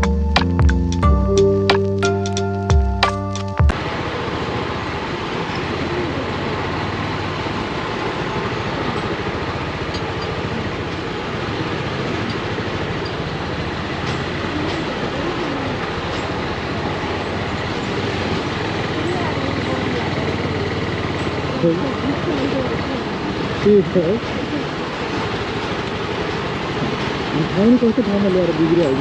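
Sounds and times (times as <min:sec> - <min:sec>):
motorcycle engine running: 0:03.9 - 0:29.0.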